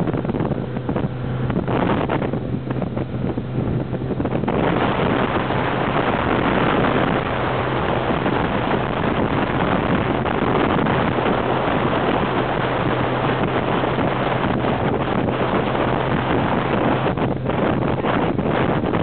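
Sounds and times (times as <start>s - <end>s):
boat engine humming: 0.0s - 19.0s
water rushing past hull: 0.0s - 19.0s
wind noise on microphone: 0.0s - 19.0s.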